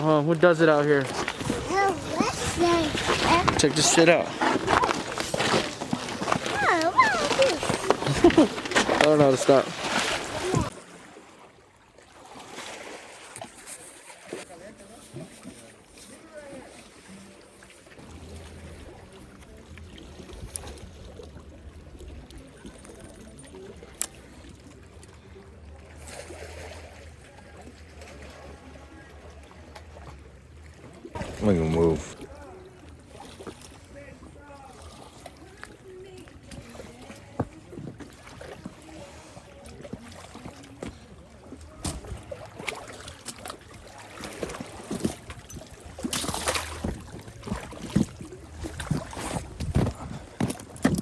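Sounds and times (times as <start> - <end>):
lake water lapping and splashing: 0.0 - 51.0.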